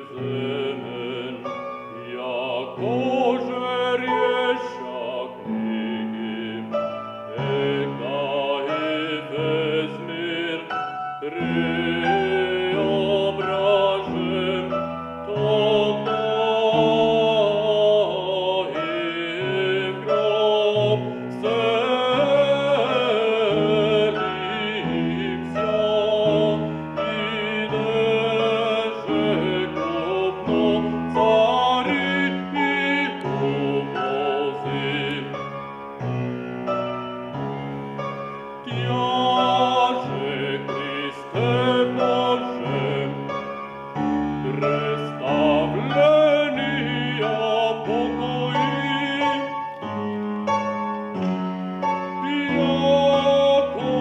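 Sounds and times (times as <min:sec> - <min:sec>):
man singing with vibrato: 0:00.0 - 0:35.9, 0:38.5 - 0:50.9, 0:51.8 - 0:54.0
grand piano: 0:00.0 - 0:54.0.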